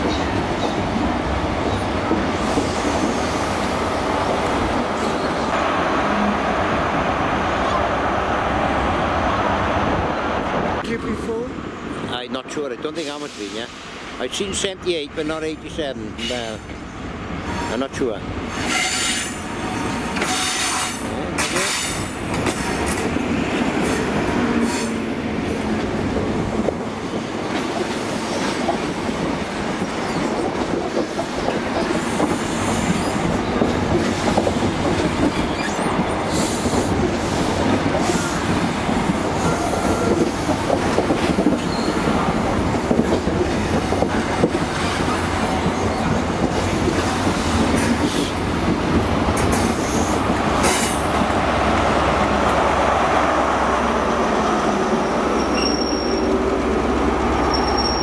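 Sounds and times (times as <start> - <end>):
train coaches rolling on rails: 0.0 - 58.0.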